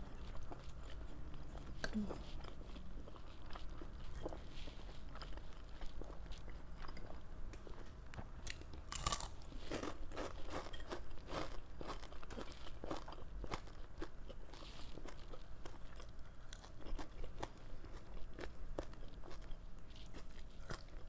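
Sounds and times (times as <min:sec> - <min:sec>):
wet chewing and crunching: 0:00.1 - 0:21.0.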